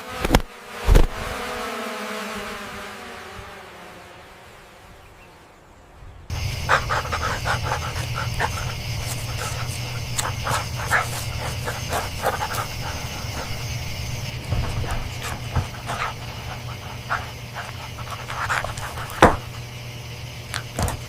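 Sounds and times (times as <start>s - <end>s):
insects chirping: 2.6s - 21.0s
steady low hum and hiss: 2.8s - 21.0s.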